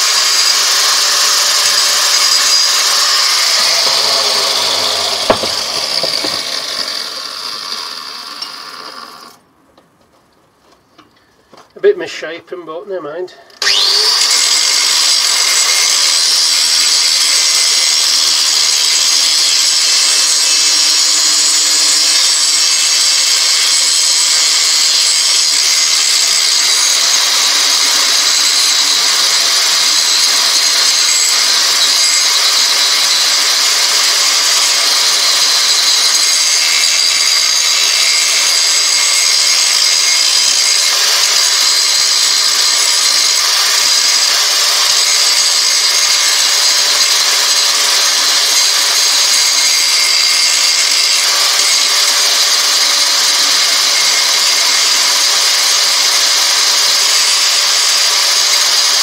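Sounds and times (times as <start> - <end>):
angle grinder grinding steel: 0.0 - 9.4, 13.6 - 59.0.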